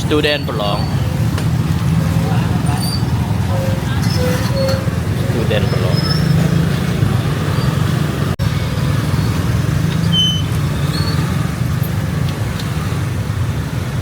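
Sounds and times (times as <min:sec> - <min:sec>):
street traffic rumbling: 0:00.0 - 0:14.0.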